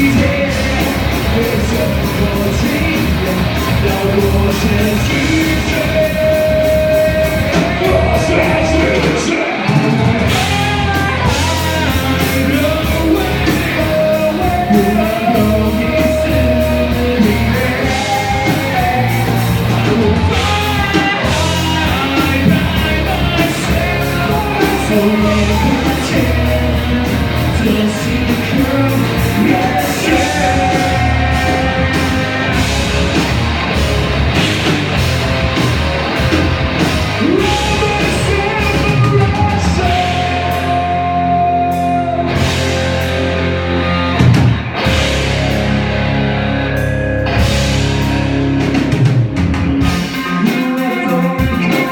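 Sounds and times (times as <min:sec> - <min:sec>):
person singing and shouting: 0:00.0 - 0:43.0, 0:49.6 - 0:51.9
live rock band playing: 0:00.0 - 0:51.9.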